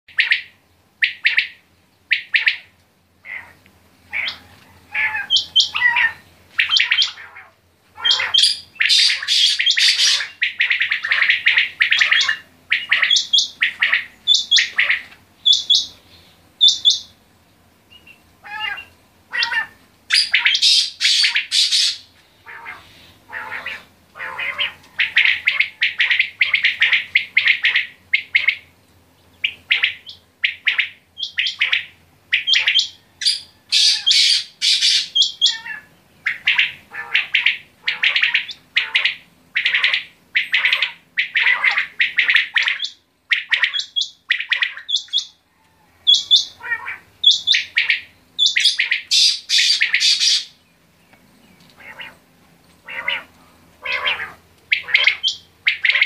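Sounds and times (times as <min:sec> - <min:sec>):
quails chirping: 0:00.1 - 0:17.2, 0:17.9 - 0:28.7, 0:29.3 - 0:45.4, 0:46.0 - 0:52.2, 0:52.8 - 0:56.0.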